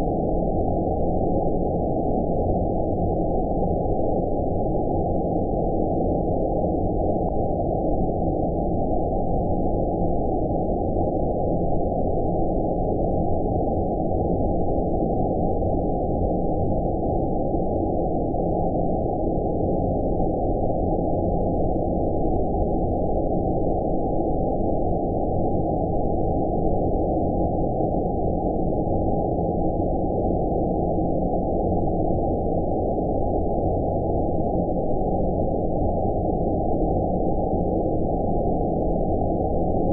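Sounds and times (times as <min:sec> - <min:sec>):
deep rumbling filtered noise: 0:00.0 - 0:39.9.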